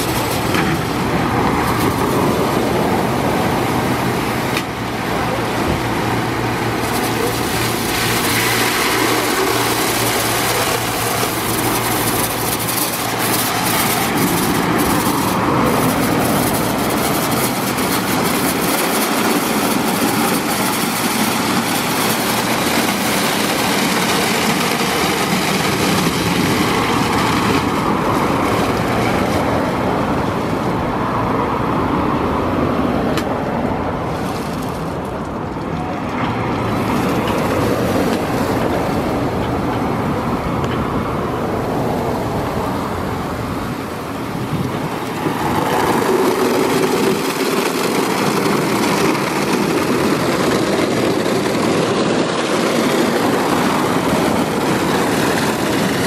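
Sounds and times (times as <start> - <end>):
rotating brushes scrubbing a car: 0.0 - 30.8, 41.7 - 56.0
water spraying: 0.0 - 56.0.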